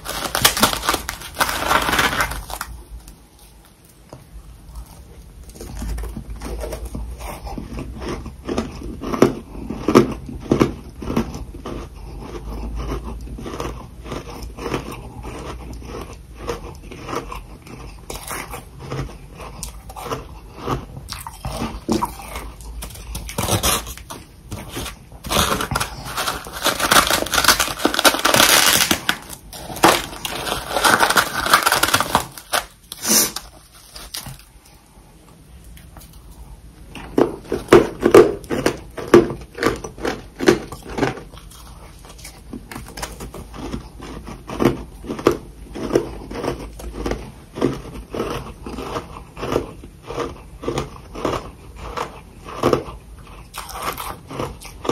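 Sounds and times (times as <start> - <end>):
person crunching frost: 0.0 - 3.9, 4.6 - 34.9, 35.8 - 54.9.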